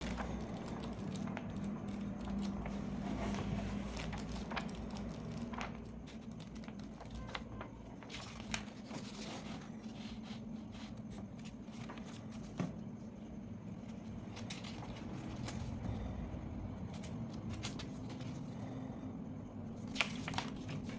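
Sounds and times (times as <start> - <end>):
paper rustling and crinkling: 0.0 - 16.2, 16.8 - 18.7, 19.7 - 20.9.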